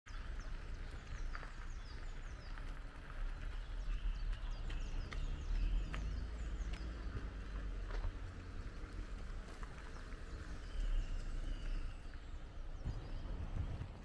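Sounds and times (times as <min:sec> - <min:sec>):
small birds chirping: 0:00.1 - 0:14.0
low rumble: 0:00.3 - 0:14.0.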